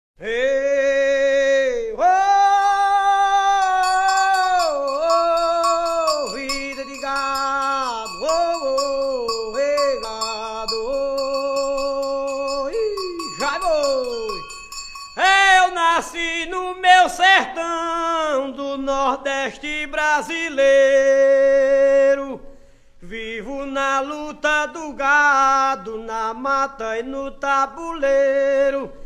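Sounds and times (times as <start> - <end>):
man singing cattle call: 0.2 - 29.0.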